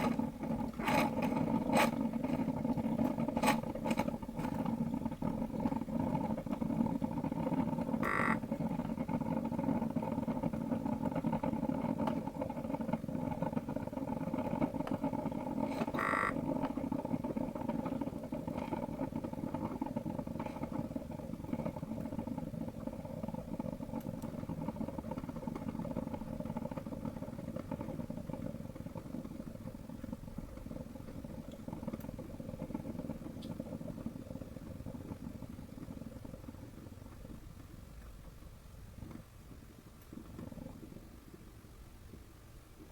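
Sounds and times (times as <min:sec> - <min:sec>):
coffee maker buzzing hum: 0:00.0 - 0:41.7.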